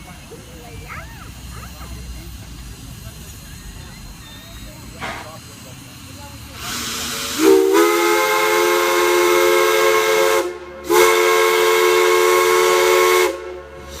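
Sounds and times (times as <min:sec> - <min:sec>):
steam hiss: 0:00.0 - 0:14.0.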